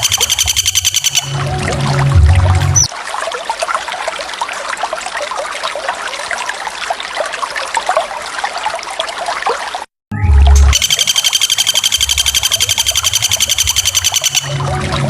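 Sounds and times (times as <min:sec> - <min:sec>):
water bubbling and trickling: 0:00.0 - 0:15.0.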